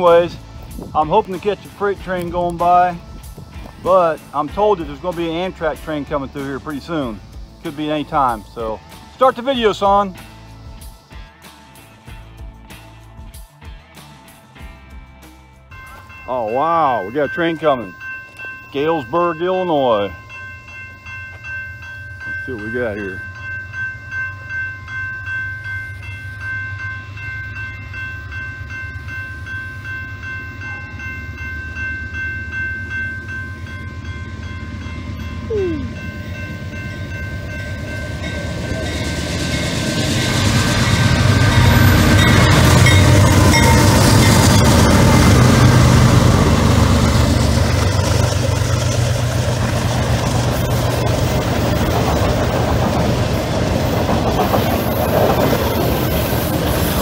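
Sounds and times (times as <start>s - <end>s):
train wheels rolling on rails: 0.0s - 13.0s, 16.9s - 57.0s
railroad crossing bell ringing: 0.0s - 13.3s, 14.1s - 57.0s
diesel locomotive engine: 0.0s - 57.0s.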